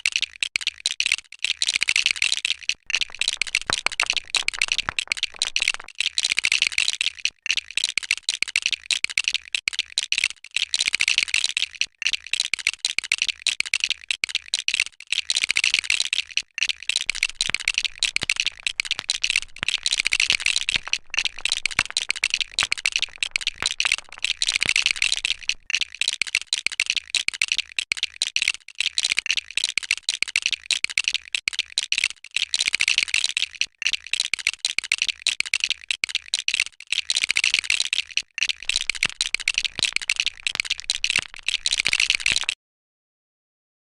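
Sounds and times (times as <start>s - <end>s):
plastic bricks rattling and clicking: 0.0s - 42.6s.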